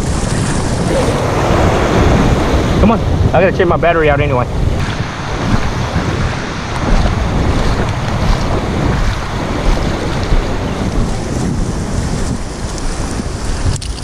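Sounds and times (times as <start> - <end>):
small waves washing in surf: 0.0 - 14.0
wind on microphone: 0.0 - 14.0.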